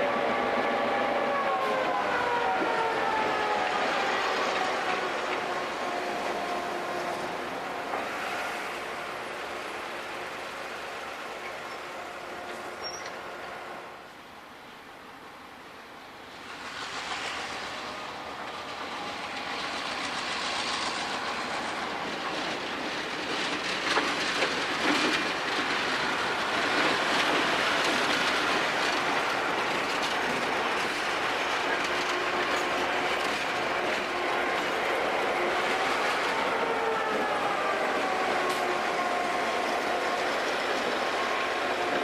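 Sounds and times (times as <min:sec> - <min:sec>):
train rolling on rails: 0:00.0 - 0:42.0.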